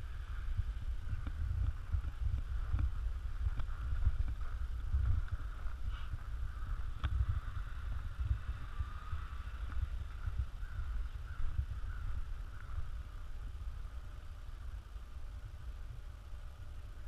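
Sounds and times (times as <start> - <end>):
low buffeting rumble: 0.0 - 17.0.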